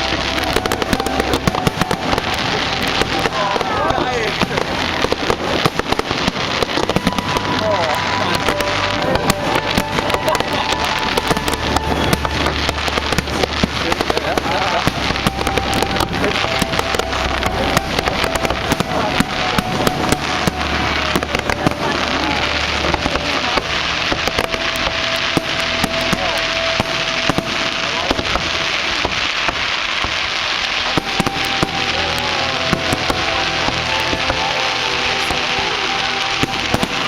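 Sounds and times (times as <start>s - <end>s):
fireworks crackling bangs: 0.0s - 37.0s.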